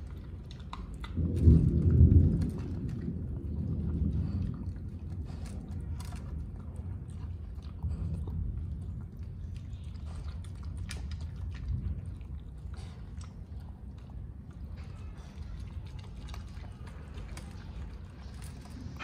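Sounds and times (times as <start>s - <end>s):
dog chewing food: 0.0s - 19.0s
steady low rumble: 0.0s - 19.0s.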